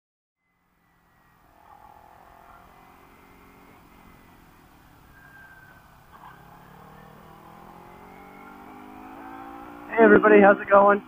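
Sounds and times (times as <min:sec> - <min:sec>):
faint motorcycle engine: 0:00.4 - 0:11.0
road noise: 0:00.4 - 0:11.0.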